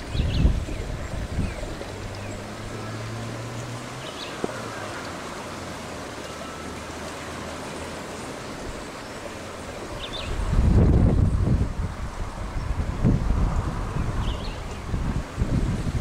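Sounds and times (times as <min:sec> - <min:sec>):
distant engine hum: 0:00.0 - 0:16.0.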